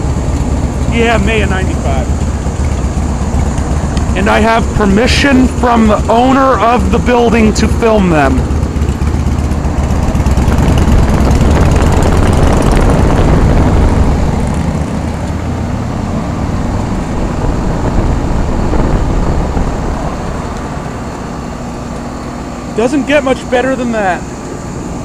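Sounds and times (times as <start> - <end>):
condenser fan air rushing: 0.0 - 25.0.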